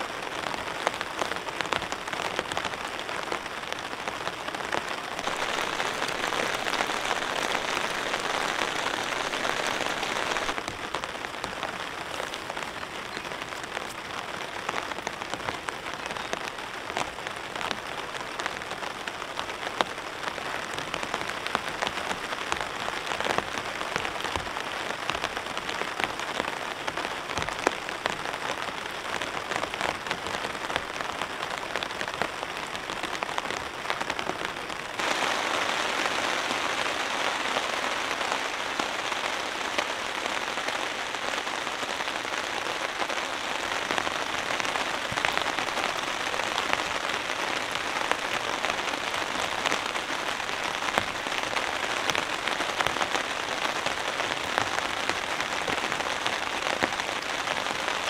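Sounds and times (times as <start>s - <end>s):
rain on a tarp: 0.0s - 58.0s.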